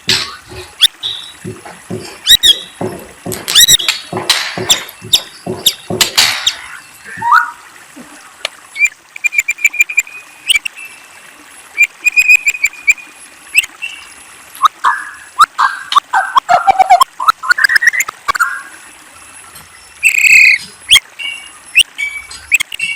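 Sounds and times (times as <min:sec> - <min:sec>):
songbird singing: 0:00.1 - 0:08.1, 0:08.8 - 0:11.1, 0:11.8 - 0:22.9.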